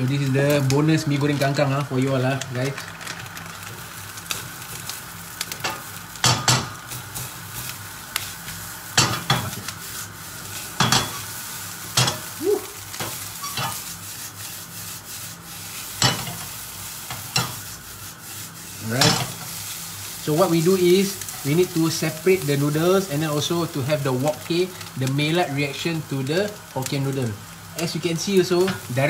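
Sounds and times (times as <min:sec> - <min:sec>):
noodles sizzling in a pan: 0:00.0 - 0:29.0.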